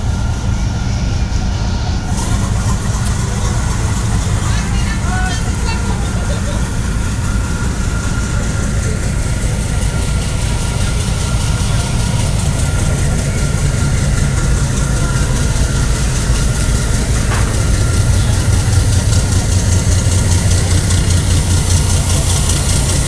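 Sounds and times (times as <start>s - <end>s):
ferry engines idling: 0.0s - 23.0s
thin steady whine: 0.0s - 23.0s.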